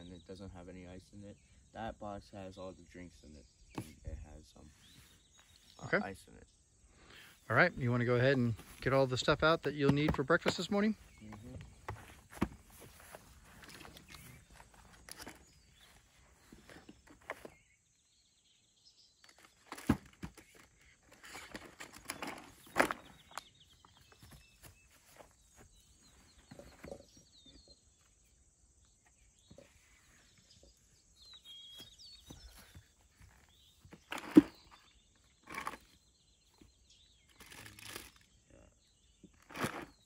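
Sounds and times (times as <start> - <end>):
faint bird chirps: 0.0 - 9.0, 10.7 - 40.0.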